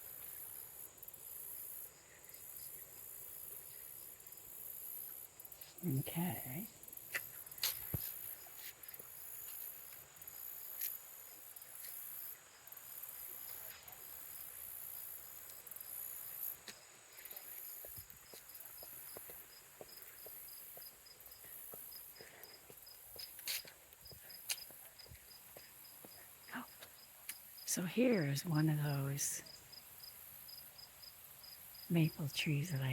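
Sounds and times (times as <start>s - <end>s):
crickets and insects chirping: 0.0s - 32.9s.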